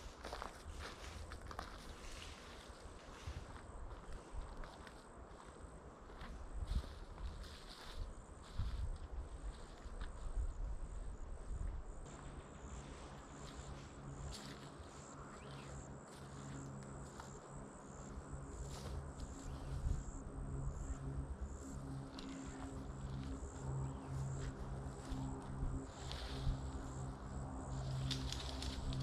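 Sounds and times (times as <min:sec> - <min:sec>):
insects buzzing: 0:00.0 - 0:29.0
low steady hum: 0:00.0 - 0:29.0.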